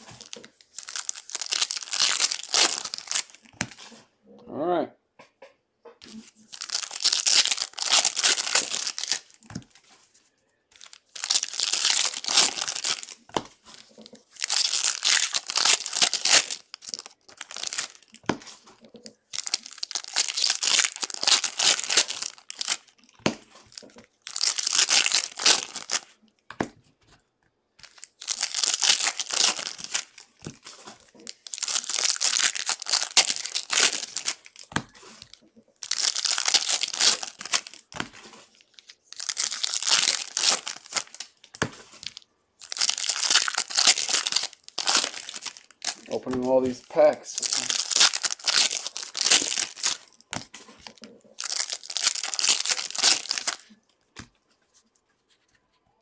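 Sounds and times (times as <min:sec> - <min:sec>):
wrappers tearing and crinkling: 0:00.0 - 0:04.0, 0:06.0 - 0:09.9, 0:10.7 - 0:26.2, 0:27.8 - 0:53.8.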